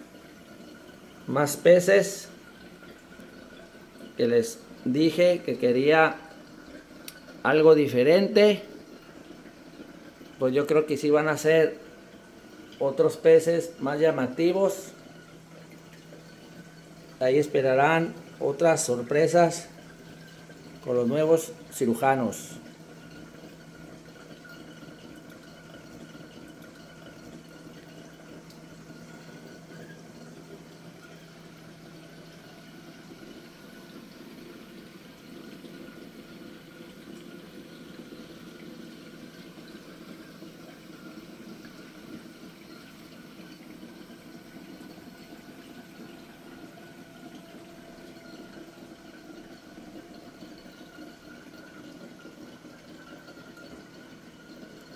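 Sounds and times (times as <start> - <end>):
aquarium running water: 0.0 - 54.9.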